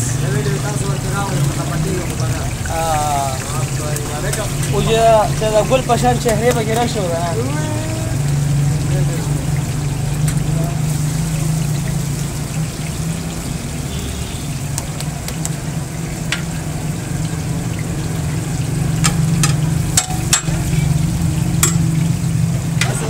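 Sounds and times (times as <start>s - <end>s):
oil sizzling on a griddle: 0.0s - 23.0s.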